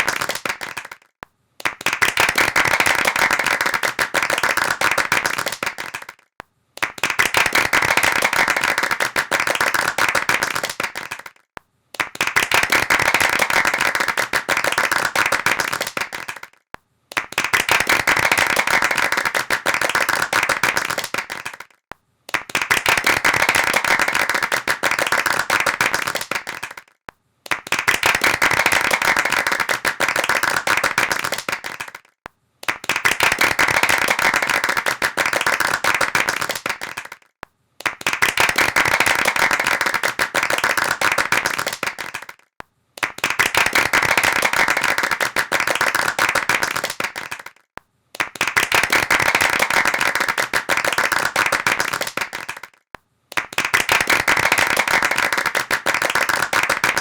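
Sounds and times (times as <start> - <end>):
hands clapping rapidly: 0.0 - 57.0.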